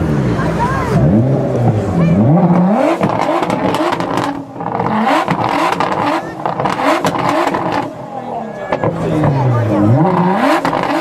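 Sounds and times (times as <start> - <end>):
exhaust crackles: 0.0 - 11.0
sports car engine revving: 0.0 - 11.0.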